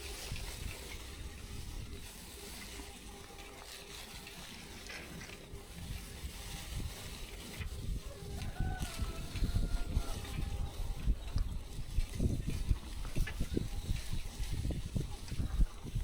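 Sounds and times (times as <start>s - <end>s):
bike riding noise: 0.0s - 16.0s
wind rumbling on microphone: 0.0s - 16.0s.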